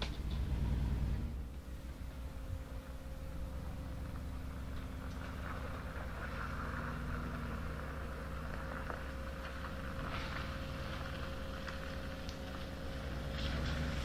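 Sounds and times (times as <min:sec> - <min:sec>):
truck engine running at low revs: 0:00.0 - 0:14.0
tyres crunching over gravel: 0:00.0 - 0:14.0.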